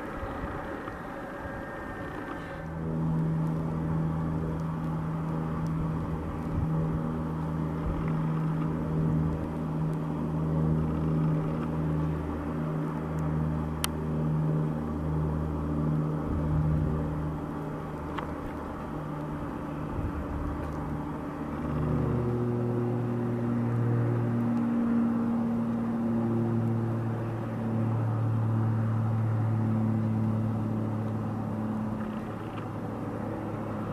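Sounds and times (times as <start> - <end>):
vehicle engine droning: 0.0 - 33.9.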